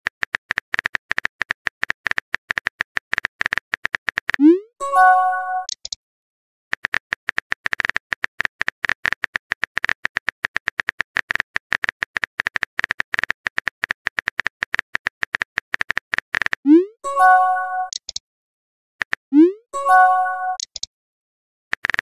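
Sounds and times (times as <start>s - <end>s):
keyboard typing clicks: 0.3s - 6.0s, 6.7s - 18.2s, 19.0s - 20.9s.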